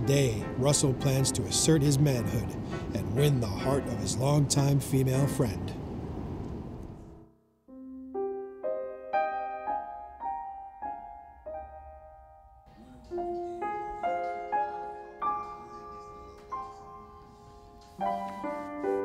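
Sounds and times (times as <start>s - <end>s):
soft piano music: 0.0s - 6.1s, 7.2s - 19.0s.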